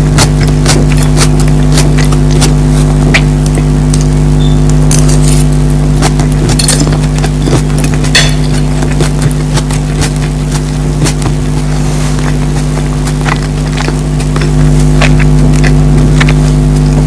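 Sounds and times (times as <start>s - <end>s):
chewing with mouth clicks: 0.0s - 17.0s
low electrical hum: 0.0s - 17.0s.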